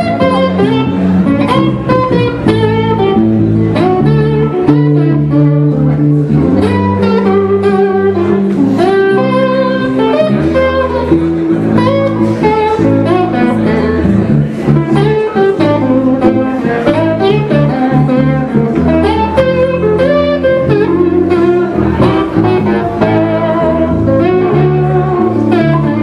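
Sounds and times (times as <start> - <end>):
bass guitar notes: 0.0 - 26.0
electric guitar melody: 0.0 - 26.0.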